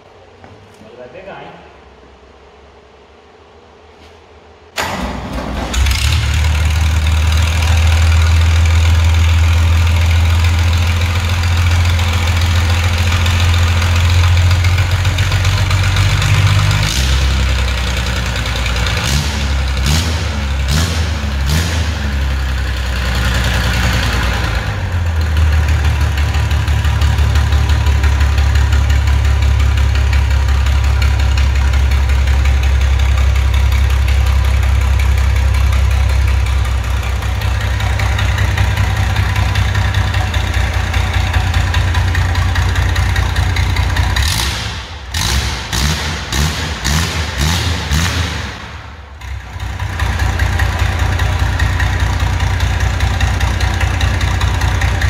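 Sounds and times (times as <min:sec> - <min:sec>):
diesel engine running: 0:04.8 - 0:55.0.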